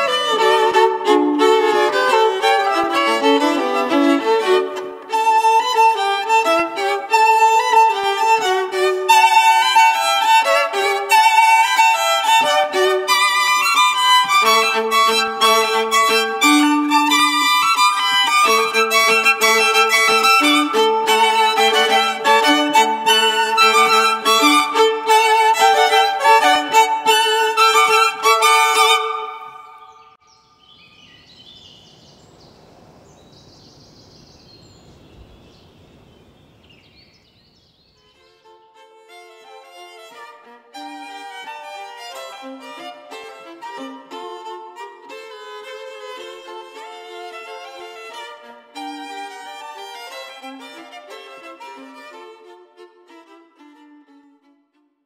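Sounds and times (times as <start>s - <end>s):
solo violin playing fast: 0.0s - 30.2s, 38.1s - 54.9s
faint background noise: 0.0s - 51.0s.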